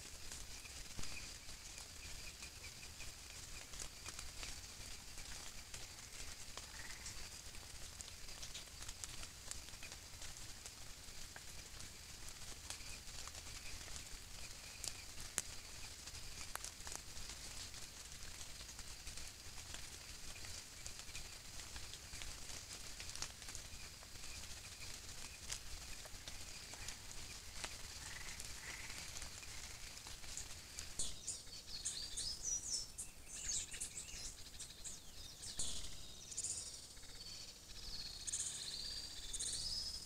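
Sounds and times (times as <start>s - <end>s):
animal scratching in dry leaves: 0.0s - 32.8s
night insects chirring: 0.3s - 10.4s, 11.1s - 39.8s.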